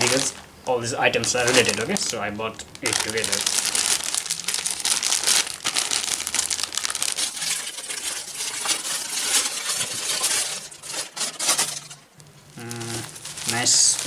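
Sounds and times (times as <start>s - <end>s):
bubble-wrap mailer tearing: 0.0s - 11.6s, 12.5s - 14.0s
plastic packaging crinkling: 0.0s - 14.0s.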